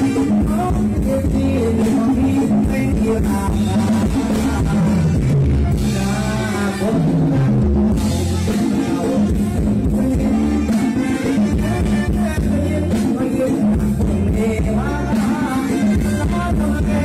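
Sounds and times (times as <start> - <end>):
live band dance music: 0.0 - 17.0
person singing: 0.0 - 17.0.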